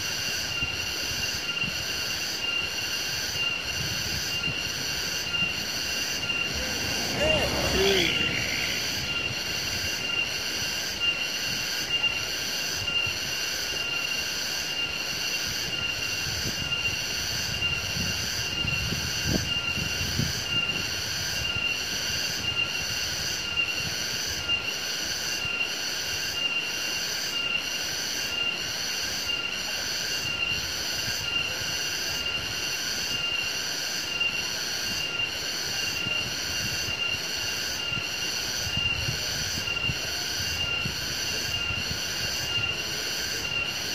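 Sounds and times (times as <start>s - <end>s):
insects calling: 0.0s - 43.9s.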